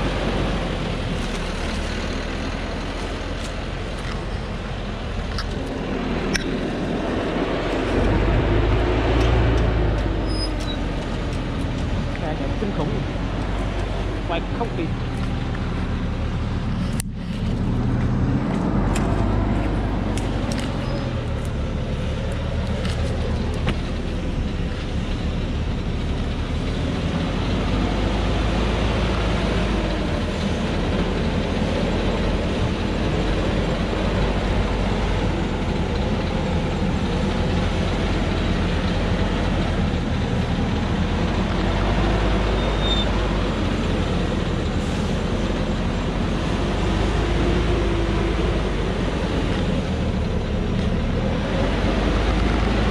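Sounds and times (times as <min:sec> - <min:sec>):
truck diesel engine working hard: 0:00.0 - 0:52.9.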